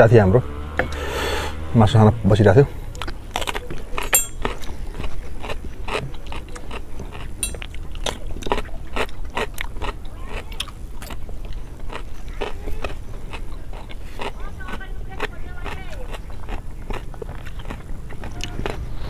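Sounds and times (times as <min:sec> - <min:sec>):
crunchy cucumber bites: 0:02.9 - 0:19.0
wet chewing: 0:02.9 - 0:19.0.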